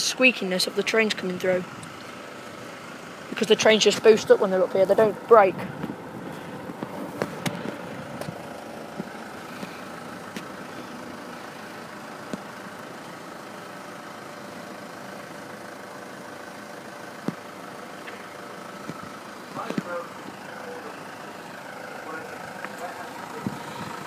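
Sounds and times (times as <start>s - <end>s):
vehicle engines idling: 0.0s - 24.0s.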